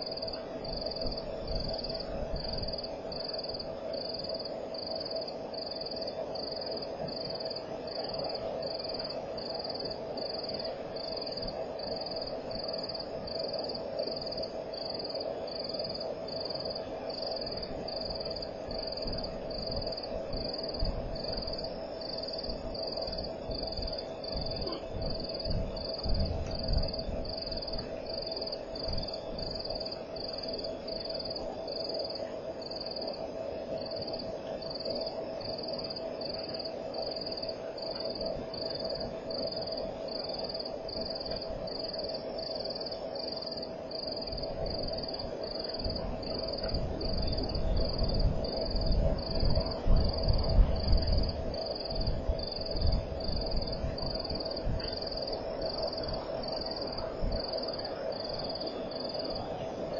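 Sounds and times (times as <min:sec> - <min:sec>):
constant low drone: 0:00.0 - 0:59.9
cricket chirping: 0:00.0 - 0:59.9.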